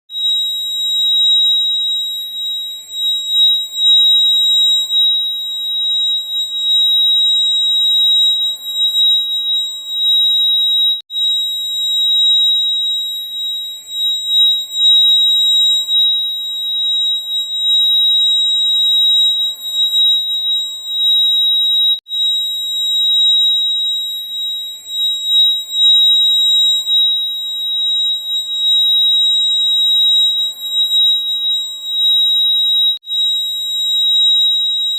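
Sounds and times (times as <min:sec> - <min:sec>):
fire alarm high-pitched tone: 0:00.0 - 0:34.9.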